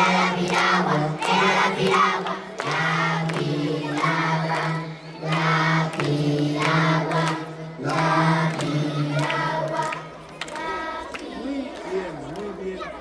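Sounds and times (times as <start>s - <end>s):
children singing together: 0.0s - 11.4s.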